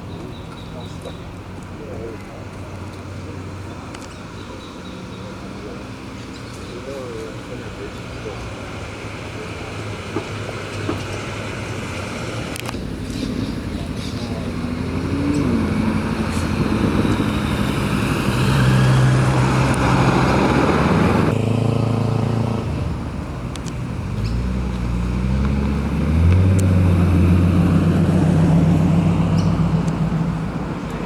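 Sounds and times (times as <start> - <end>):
cars driving slowly past: 0.0 - 31.0.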